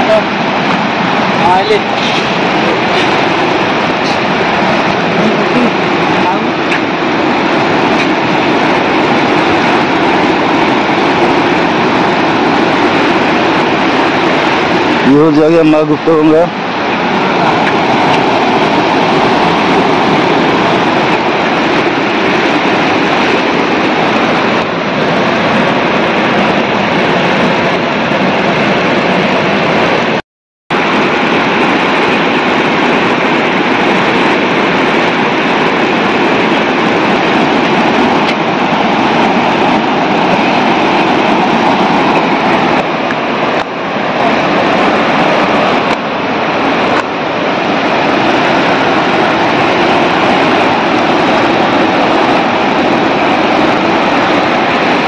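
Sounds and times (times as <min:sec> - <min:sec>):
river rushing through rapids: 0:00.0 - 0:55.0.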